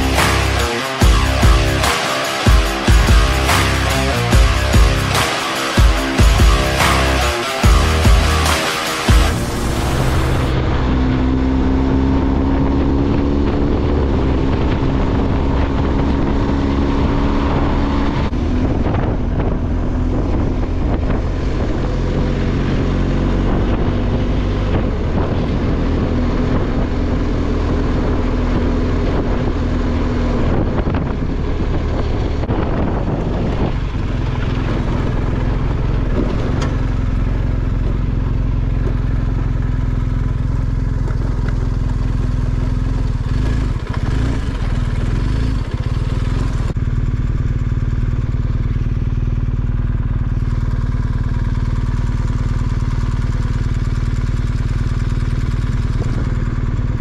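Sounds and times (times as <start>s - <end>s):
motorcycle engine running: 0.0s - 57.0s
wind noise on microphone: 9.3s - 49.6s, 50.6s - 57.0s.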